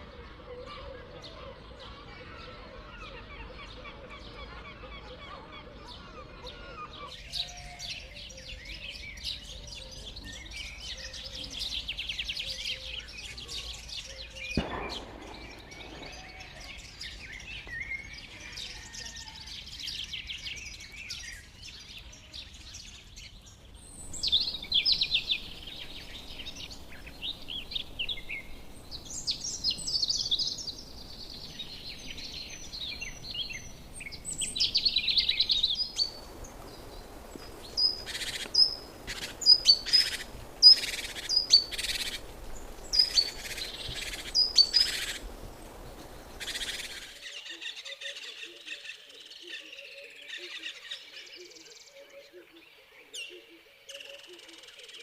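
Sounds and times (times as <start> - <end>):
songbirds trilling and chirping: 0.0 - 55.0.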